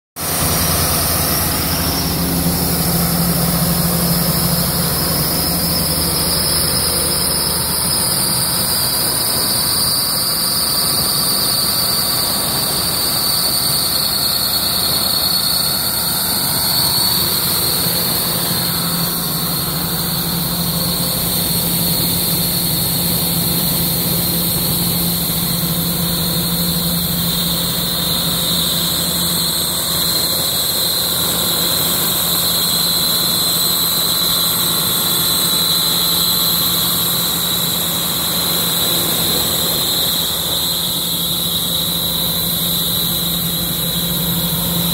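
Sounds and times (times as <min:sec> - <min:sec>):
diesel air compressor running: 0:00.2 - 0:44.9
high-pitched whine: 0:00.2 - 0:44.9.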